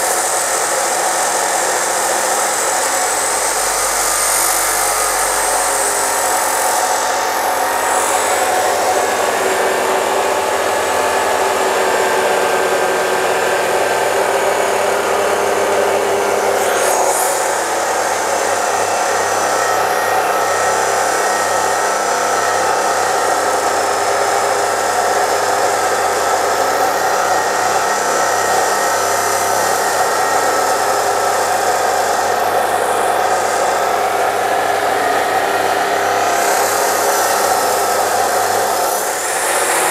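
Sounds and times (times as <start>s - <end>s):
chop saw grinding through steel: 0.0s - 39.9s.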